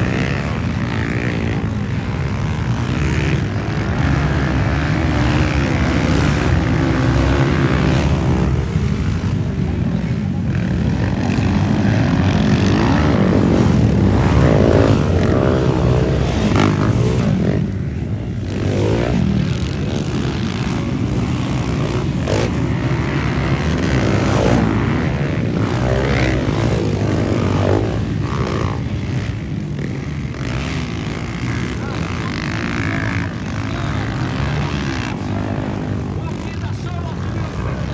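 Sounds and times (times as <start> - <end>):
motocross bike engines revving: 0.0 - 37.9.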